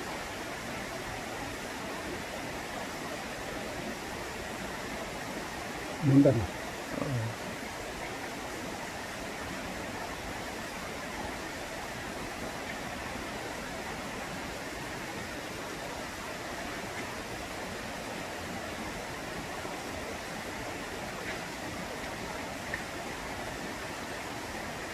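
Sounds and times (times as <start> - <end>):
stream water rushing: 0.0 - 24.9.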